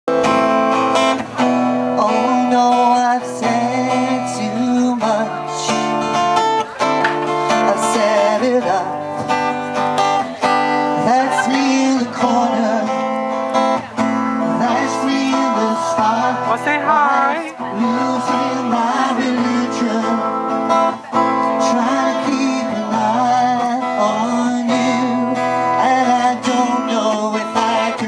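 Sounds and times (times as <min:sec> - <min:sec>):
acoustic guitar strumming: 0:00.1 - 0:28.0.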